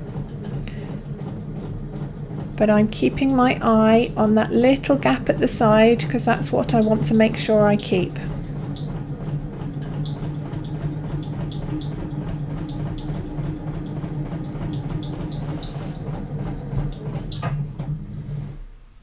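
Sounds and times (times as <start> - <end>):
sewing machine stitching: 0.0 - 18.7.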